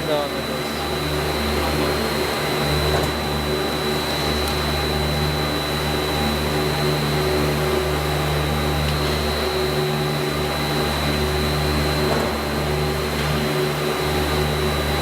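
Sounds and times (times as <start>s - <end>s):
electric motor hum with whine: 0.0s - 15.0s.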